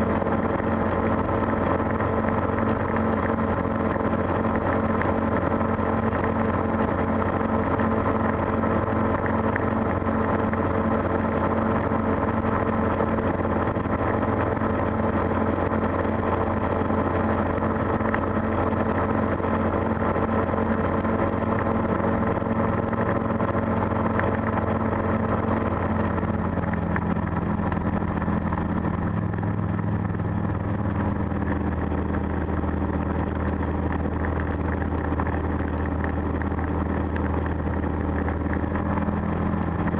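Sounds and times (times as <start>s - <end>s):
aircraft engine idling hum: 0.0s - 39.9s.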